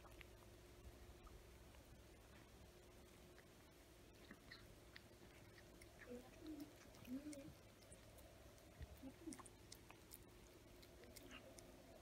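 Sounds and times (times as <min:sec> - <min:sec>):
cats chewing: 0:00.0 - 0:12.0.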